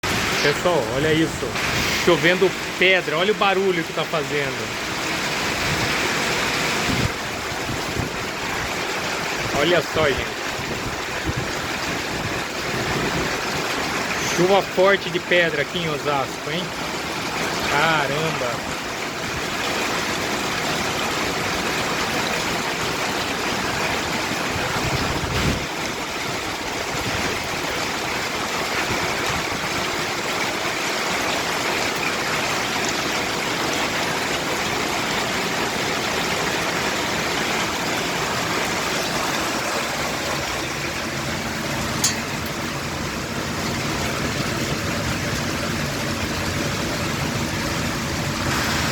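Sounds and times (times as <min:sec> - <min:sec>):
hail falling: 0:00.0 - 0:48.9
heavy rain: 0:00.0 - 0:48.9.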